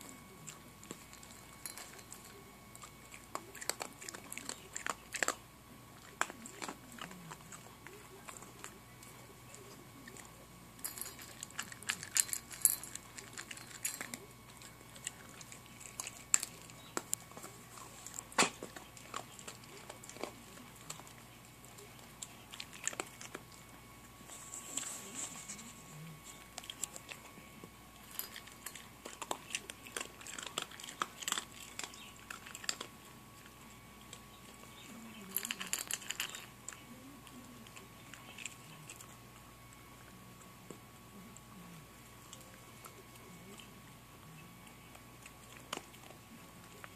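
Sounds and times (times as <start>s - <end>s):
puppy crunching dry kibble: 0.0s - 46.9s.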